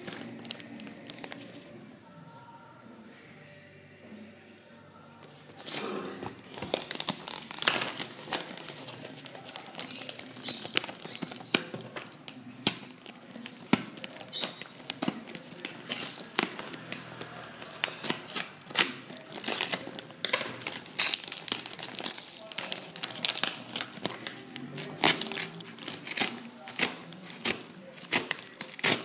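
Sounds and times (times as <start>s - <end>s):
paper and cardboard tearing: 5.6s - 29.0s.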